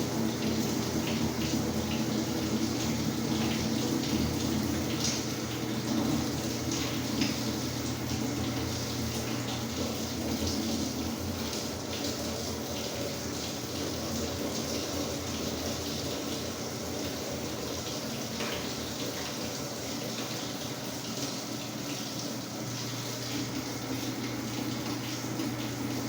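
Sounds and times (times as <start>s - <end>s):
water rushing in washer tub: 0.0s - 26.0s.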